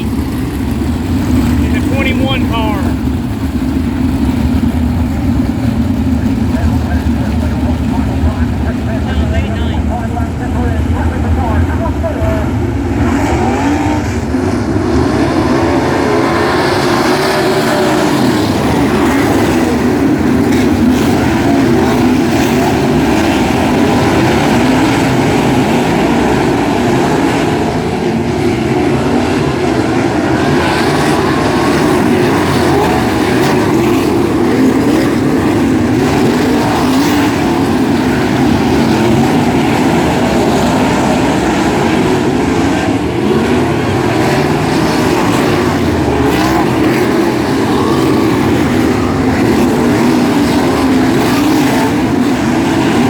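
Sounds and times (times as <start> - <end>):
racing car engines: 0.0 - 53.0.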